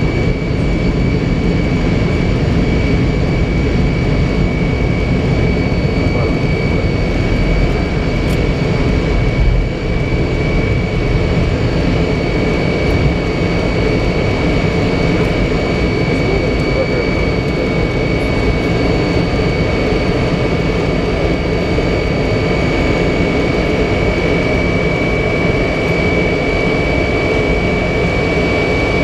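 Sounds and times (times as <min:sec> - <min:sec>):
high engine whine: 0:00.0 - 0:29.0
jet engines rumbling: 0:00.0 - 0:29.0.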